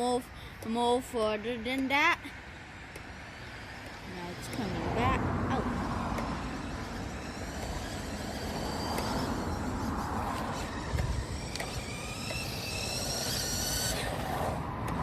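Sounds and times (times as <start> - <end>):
toy truck electric motor whining: 2.2 - 15.0
steady rushing noise: 2.7 - 15.0.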